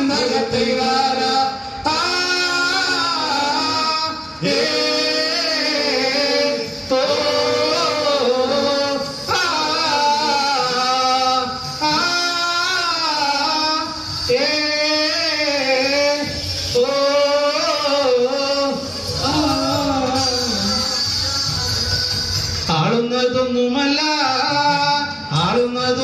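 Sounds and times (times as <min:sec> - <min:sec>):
men singing together: 0:00.0 - 0:21.2.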